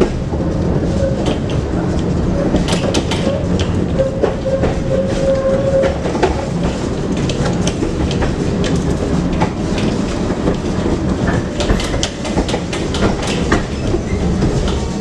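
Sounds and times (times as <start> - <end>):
tram wheels rumbling on rails: 0.0 - 15.0
wheels clicking over rail joints: 0.0 - 15.0.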